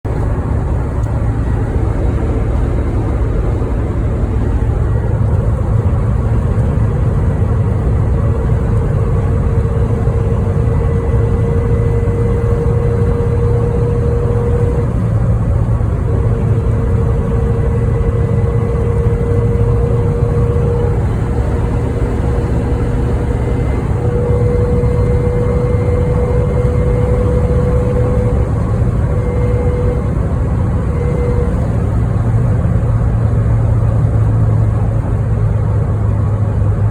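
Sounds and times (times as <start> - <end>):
engine and road drone: 0.0 - 36.9
gear whine: 0.1 - 35.0.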